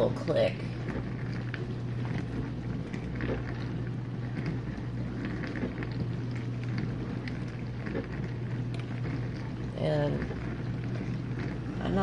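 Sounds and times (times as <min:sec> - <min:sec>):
dishwasher motor hum: 0:00.0 - 0:12.0
water spraying inside tub: 0:00.0 - 0:12.0.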